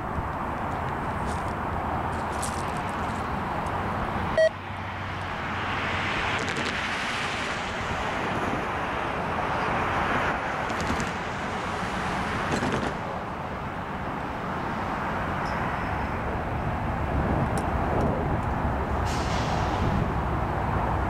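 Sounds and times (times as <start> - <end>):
road traffic tyre noise: 0.0 - 21.0.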